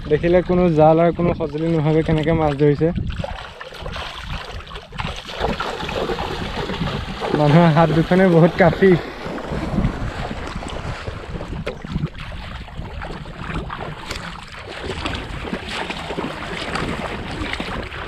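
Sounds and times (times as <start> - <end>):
people wading through water: 0.0 - 18.0
wind buffeting microphone: 0.0 - 18.0.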